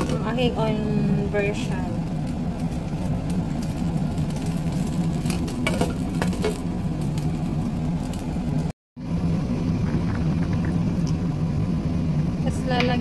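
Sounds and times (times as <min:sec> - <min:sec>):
pot simmering: 0:00.0 - 0:12.9
steady low hum: 0:00.0 - 0:13.0.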